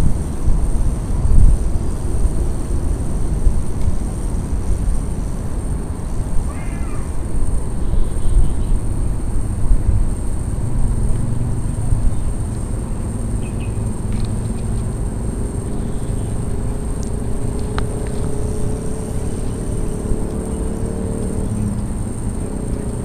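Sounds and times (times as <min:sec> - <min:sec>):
distant engine hum: 0:00.0 - 0:23.0
low gusty rumble: 0:00.0 - 0:23.0.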